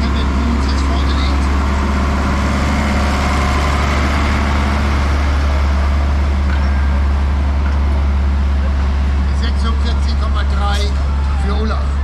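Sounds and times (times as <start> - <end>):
diesel tractor engines humming: 0.0 - 12.0.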